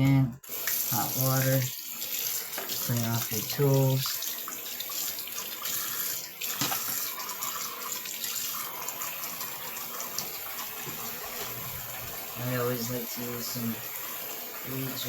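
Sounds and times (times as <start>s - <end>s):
water running into a sink: 0.4s - 15.0s.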